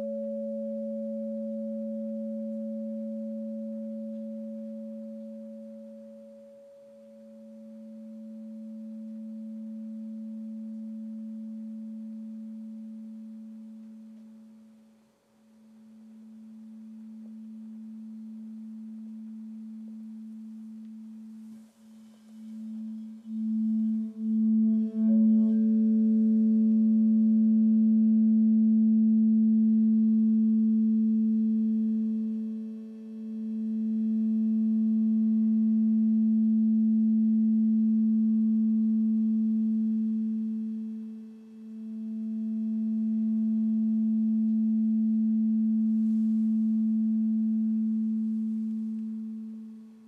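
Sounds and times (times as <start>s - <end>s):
singing bowl ringing: 0.0s - 14.7s, 16.0s - 50.0s.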